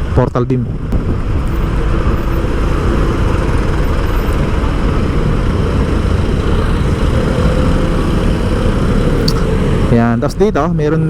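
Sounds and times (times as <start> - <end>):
wind buffeting microphone: 0.6 - 9.9
vehicle engine and road noise: 0.7 - 11.0.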